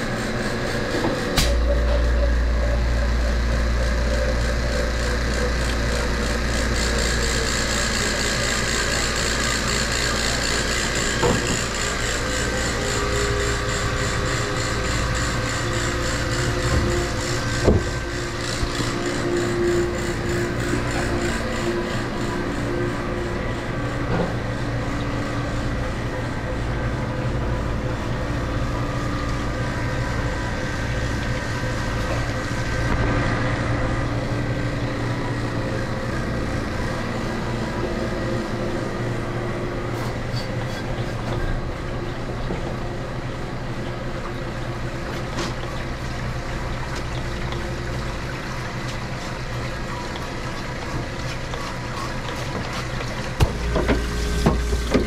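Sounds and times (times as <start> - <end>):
vacuum pump humming: 0.0 - 55.0.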